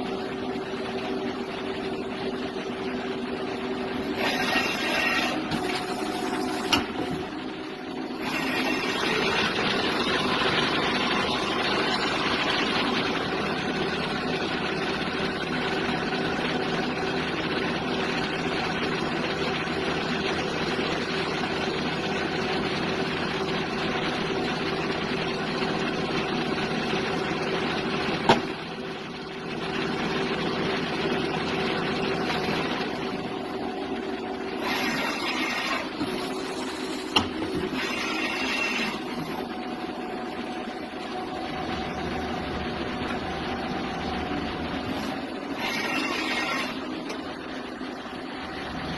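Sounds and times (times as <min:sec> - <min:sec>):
lathe running: 0:00.0 - 0:48.9.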